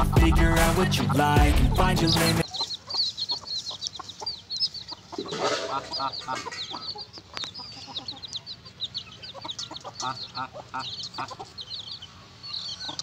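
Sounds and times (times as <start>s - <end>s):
chicks peeping: 0.0s - 13.0s
hen clucking: 0.0s - 13.0s.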